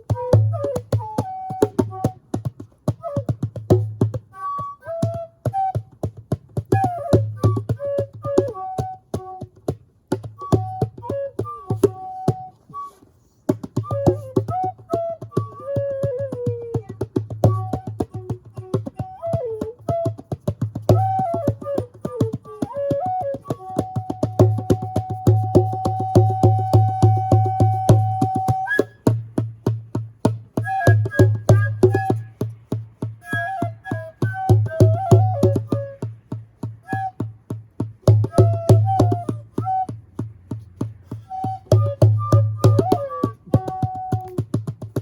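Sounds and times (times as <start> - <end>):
hand drumming: 0.0 - 12.8, 13.4 - 45.0
flute melody: 0.0 - 29.2, 30.5 - 45.0.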